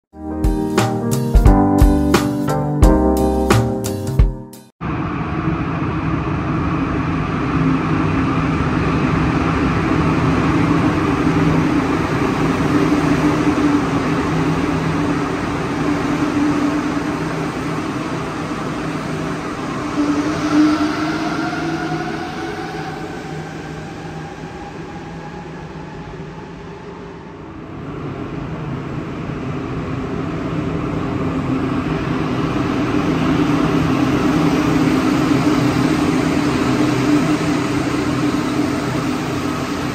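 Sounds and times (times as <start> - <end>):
metro train running hum: 4.8 - 39.9.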